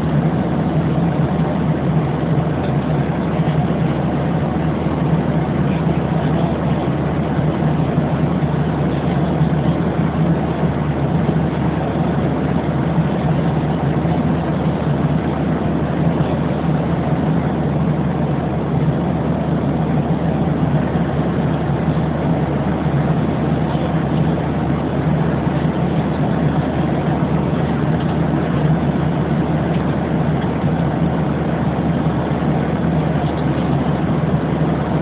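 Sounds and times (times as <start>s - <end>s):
jet airliner cabin noise: 0.0s - 35.0s.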